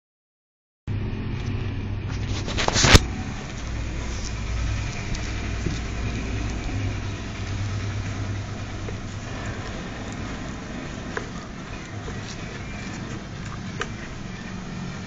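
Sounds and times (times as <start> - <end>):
low rumble: 0.9 - 15.0
loud crackle: 1.4 - 15.0.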